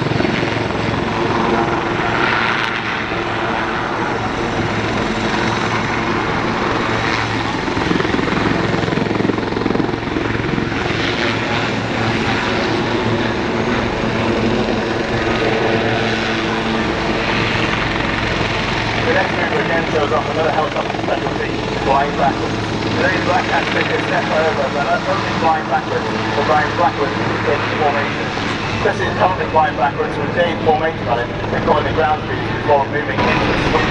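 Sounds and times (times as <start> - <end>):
helicopters flying past: 0.0 - 33.9.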